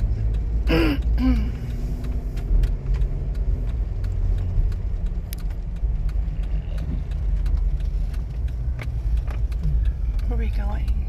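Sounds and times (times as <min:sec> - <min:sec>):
car road rumble: 0:00.0 - 0:11.0
raindrops ticking on car: 0:00.0 - 0:11.0.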